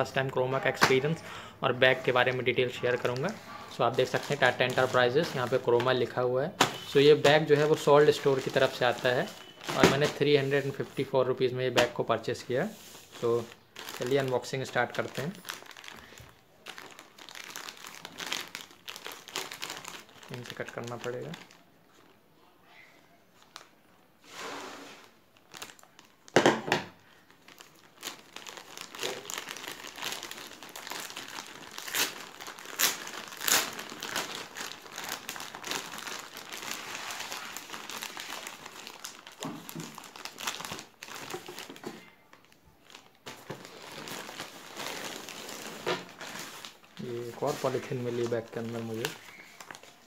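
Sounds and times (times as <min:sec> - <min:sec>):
plastic packaging crinkling: 0:00.1 - 0:22.2, 0:25.0 - 0:50.0.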